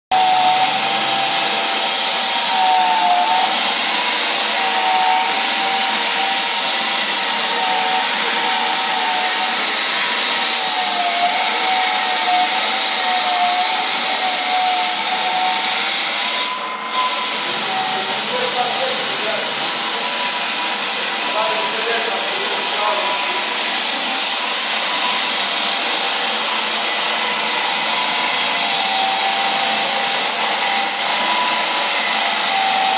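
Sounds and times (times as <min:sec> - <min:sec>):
floor sander running: 0:00.1 - 0:32.9.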